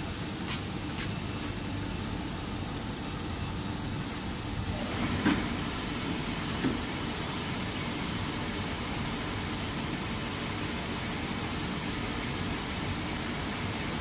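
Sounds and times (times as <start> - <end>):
machine running steadily: 0.0 - 14.0.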